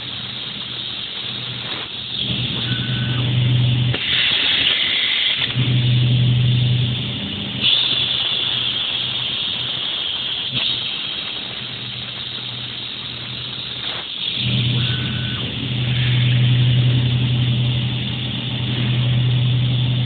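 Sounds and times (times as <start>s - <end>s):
machine motor hum: 0.0s - 9.2s, 10.5s - 20.0s
high hiss of cutting: 0.2s - 5.6s, 7.6s - 20.0s.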